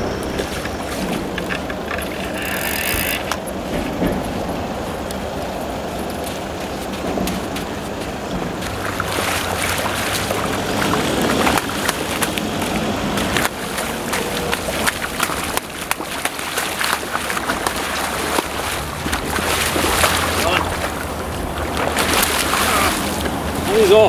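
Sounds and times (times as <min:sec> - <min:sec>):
water splashing: 0:00.0 - 0:24.0.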